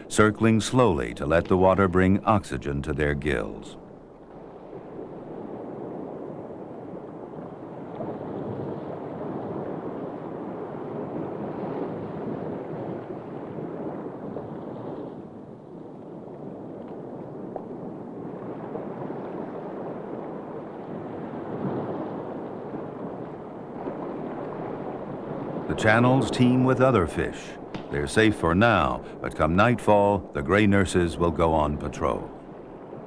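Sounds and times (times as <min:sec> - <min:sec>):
rushing surf-like water: 0:00.0 - 0:33.0.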